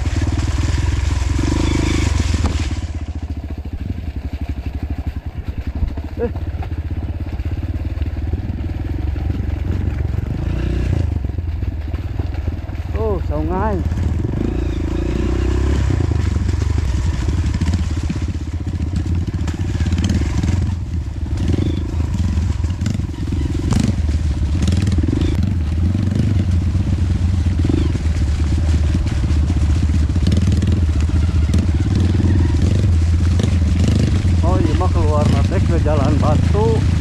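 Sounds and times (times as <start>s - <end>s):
knocks and crackles on rough ground: 0.0s - 37.0s
motorcycle engine at low revs: 0.0s - 37.0s.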